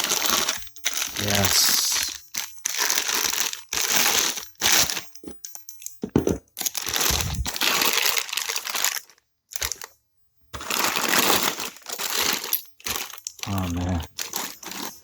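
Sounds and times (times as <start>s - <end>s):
packaging crinkling: 0.0s - 5.3s, 6.5s - 9.9s, 10.6s - 15.0s.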